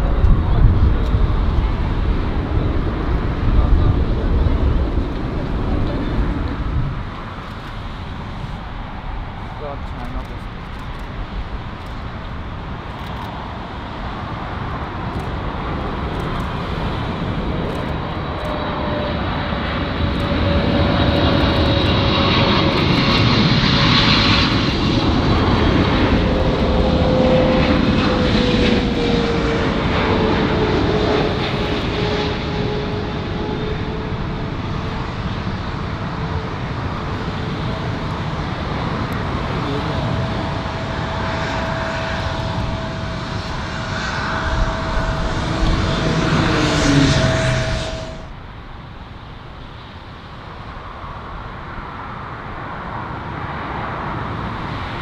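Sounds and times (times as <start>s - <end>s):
jet airliner engines passing: 0.0s - 55.0s
steady engine whine: 0.0s - 55.0s.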